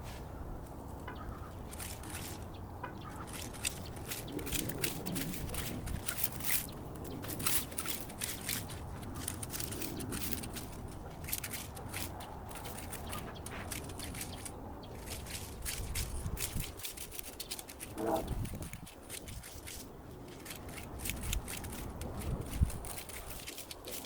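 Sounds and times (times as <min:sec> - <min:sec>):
crunching scraping clicks in soil: 0:00.6 - 0:24.0.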